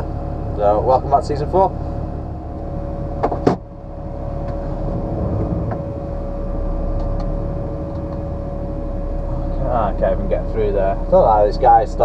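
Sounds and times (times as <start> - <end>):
constant hum: 0.0 - 12.0
diesel engine rumble from cab: 0.0 - 12.0.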